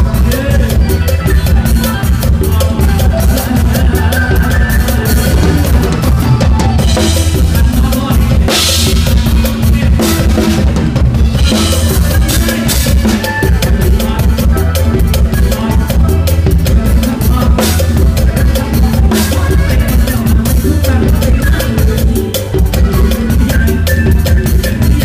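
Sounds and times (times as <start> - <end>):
drum kit playing: 0.0 - 25.0
heavy bass line: 0.0 - 25.0.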